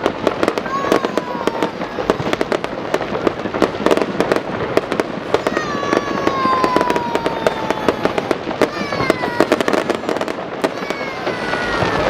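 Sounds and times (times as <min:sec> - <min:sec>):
falling firework whistle: 0:00.0 - 0:12.0
fireworks bangs and crackles: 0:00.0 - 0:12.0.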